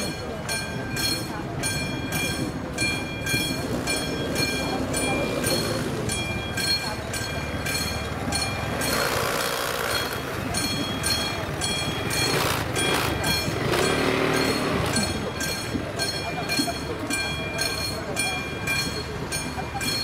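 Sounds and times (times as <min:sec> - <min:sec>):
level crossing bell ringing: 0:00.0 - 0:20.0
train wheels rumbling: 0:00.0 - 0:20.0.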